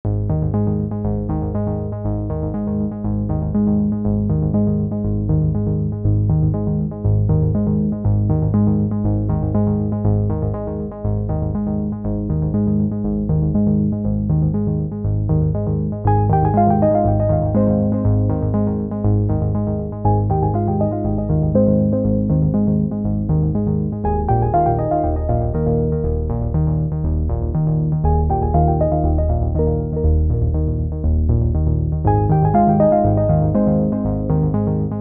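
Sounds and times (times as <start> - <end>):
low bass line: 0.0 - 35.0
background music with steady beat: 0.1 - 35.0.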